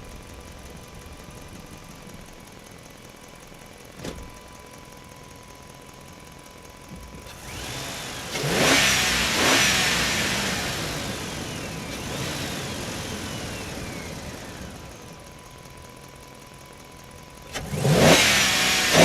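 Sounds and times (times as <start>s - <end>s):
truck engine and tyres: 0.0s - 19.0s.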